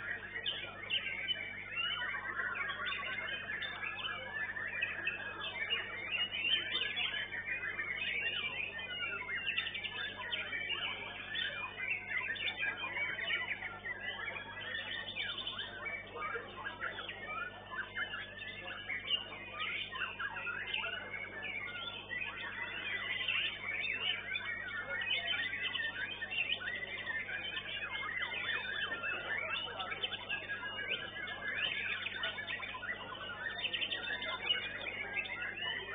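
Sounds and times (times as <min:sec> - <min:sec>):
other birds singing: 0:00.0 - 0:35.9
songbird chirping and whistling: 0:00.0 - 0:35.9.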